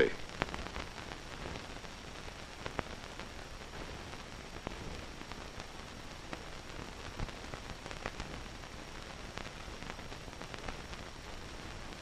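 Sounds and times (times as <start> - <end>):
crackles and pops: 0.0 - 12.0
film soundtrack hiss: 0.0 - 12.0.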